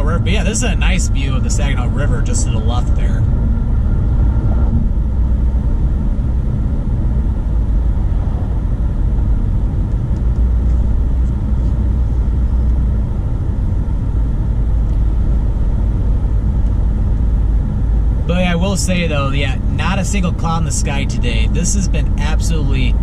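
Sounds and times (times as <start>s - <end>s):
car driving on a highway: 0.0s - 23.0s.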